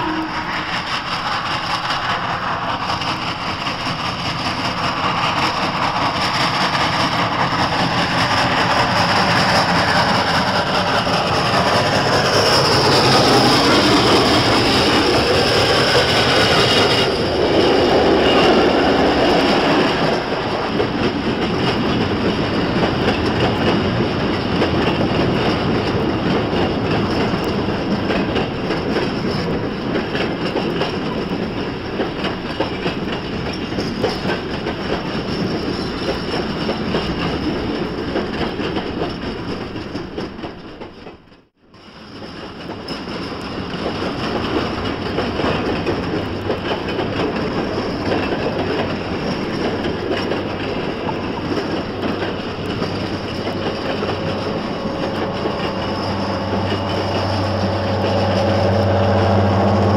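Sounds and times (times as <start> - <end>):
steam train rumbling: 0.0 - 59.9
wheel clatter on rails: 0.6 - 59.9.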